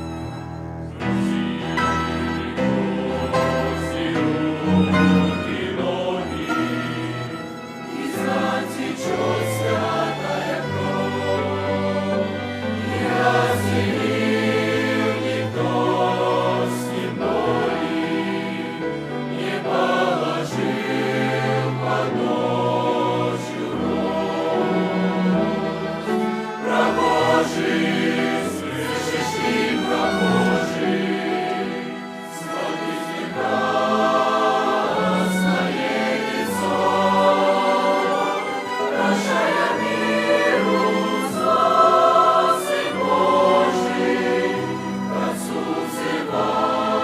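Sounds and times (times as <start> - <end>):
choir singing a hymn: 0.0 - 47.0.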